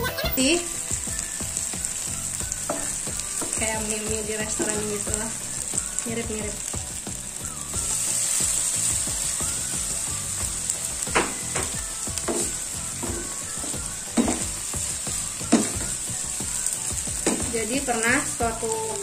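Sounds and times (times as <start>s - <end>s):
noodles sizzling in a frying pan: 0.0s - 19.0s.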